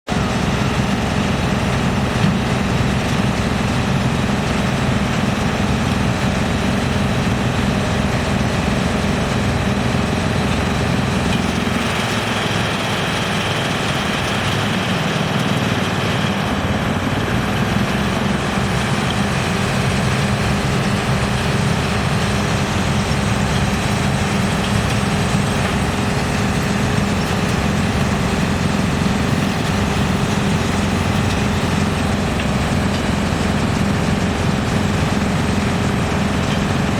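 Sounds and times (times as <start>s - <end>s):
wood chipper droning: 0.1s - 36.9s.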